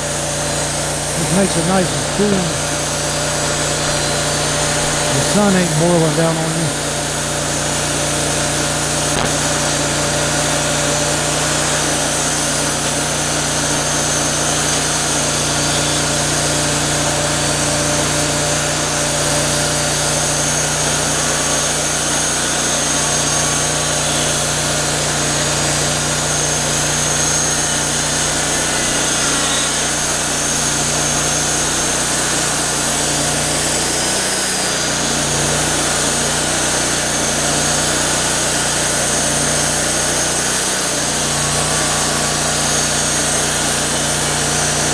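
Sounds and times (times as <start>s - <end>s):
band sawmill sawing log: 0.0s - 44.9s.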